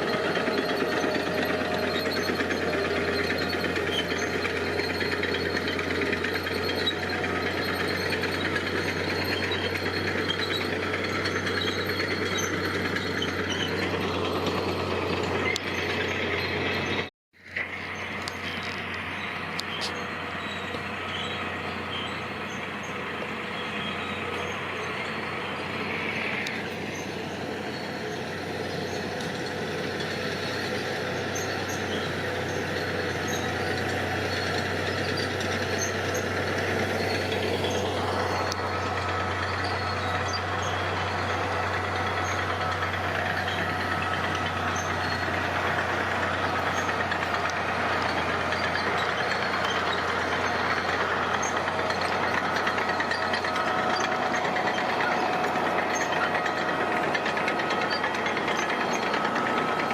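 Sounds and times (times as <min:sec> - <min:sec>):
diesel engine running: 0:00.0 - 0:59.9
faint engine whine: 0:00.0 - 0:59.9.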